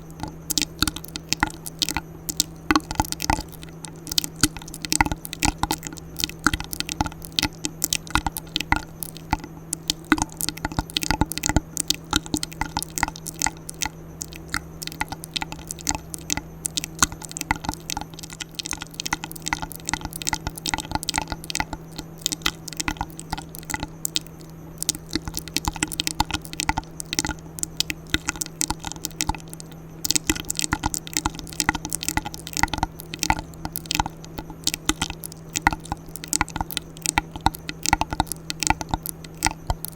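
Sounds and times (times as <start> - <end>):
low steady hum: 0.0 - 39.9
wet mouth clicks and smacks: 0.0 - 39.9.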